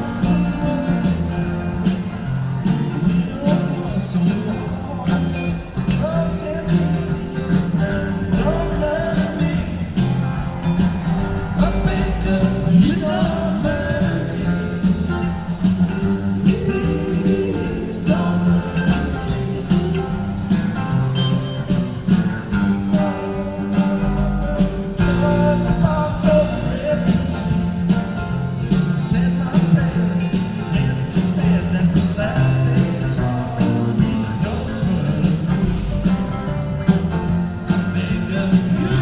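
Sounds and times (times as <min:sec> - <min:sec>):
country-rock song: 0:00.0 - 0:39.0.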